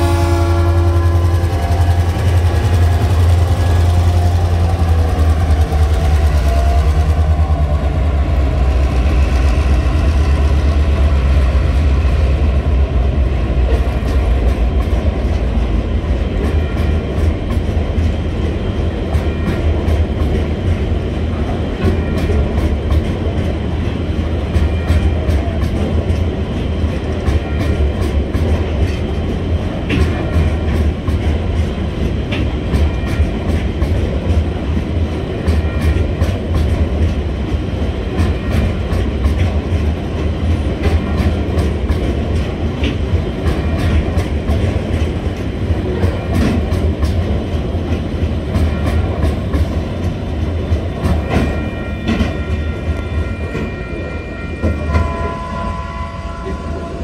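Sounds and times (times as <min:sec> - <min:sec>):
train wheels clicking over rail joints: 0:00.0 - 0:55.3
diesel locomotive engine rumbling: 0:00.0 - 0:57.0.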